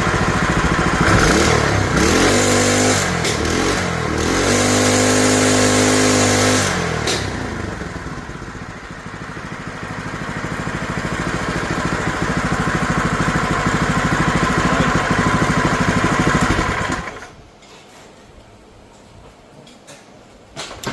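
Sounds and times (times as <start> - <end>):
small gasoline engine running: 0.0 - 17.4.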